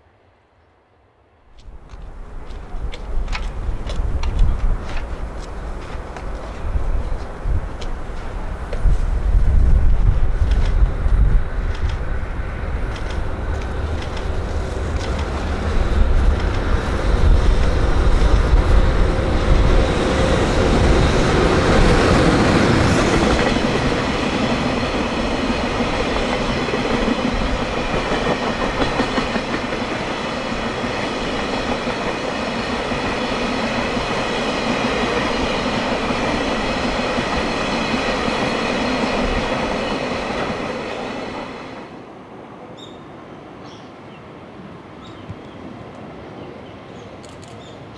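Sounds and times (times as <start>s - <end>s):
train wheels clacking over rail joints: 1.6s - 8.9s, 10.0s - 41.4s
electric locomotive rumble: 1.6s - 42.0s.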